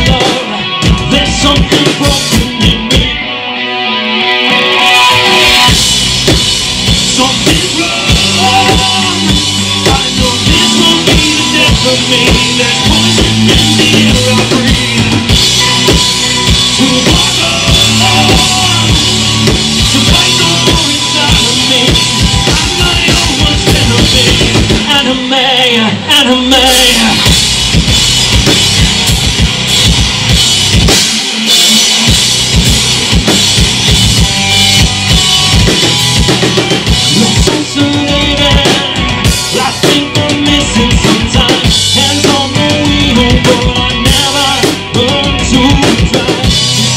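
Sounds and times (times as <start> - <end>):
drum kit pounding: 0.0 - 3.2, 5.1 - 25.2, 26.7 - 46.9
bass guitar: 0.0 - 46.9
distorted electric guitars: 0.0 - 46.9.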